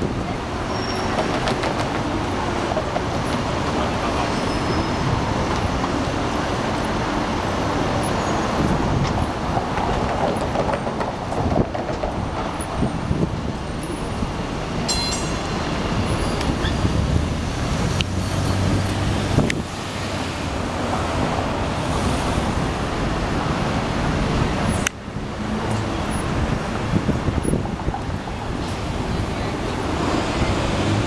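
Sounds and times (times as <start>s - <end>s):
cars driving past: 0.0s - 31.0s.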